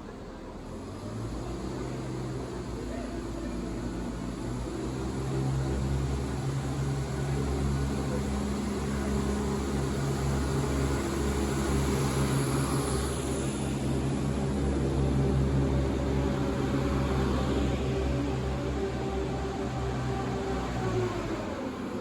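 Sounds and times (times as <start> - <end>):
vehicle engine drone: 0.0 - 22.0.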